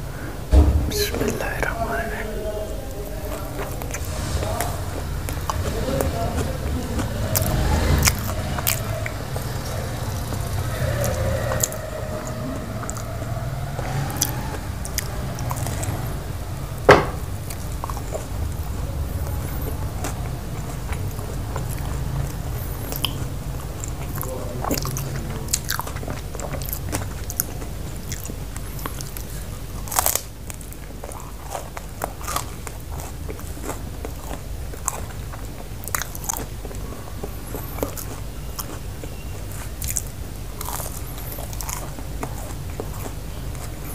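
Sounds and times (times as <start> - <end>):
chewing and crunching pizza: 1.4 - 43.9.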